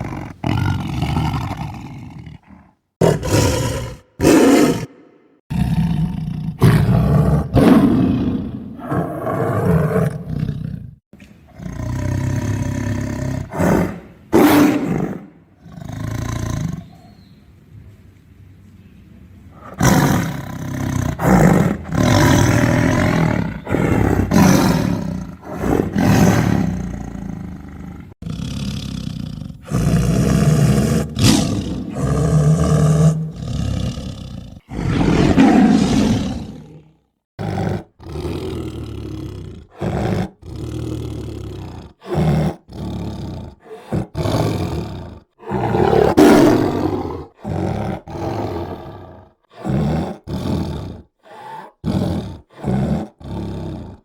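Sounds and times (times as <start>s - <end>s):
tiger roaring and growling: 0.0s - 17.1s, 19.5s - 54.0s.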